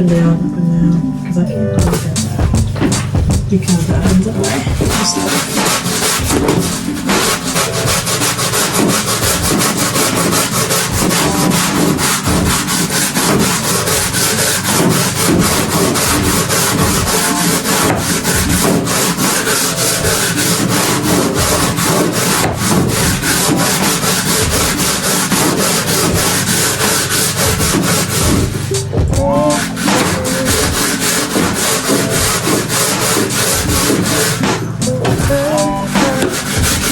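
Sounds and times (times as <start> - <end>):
brush scrubbing a floor: 3.7 - 36.9.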